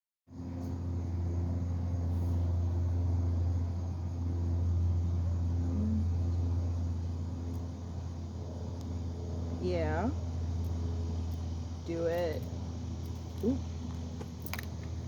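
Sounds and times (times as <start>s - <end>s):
low mechanical hum: 0.3s - 15.0s.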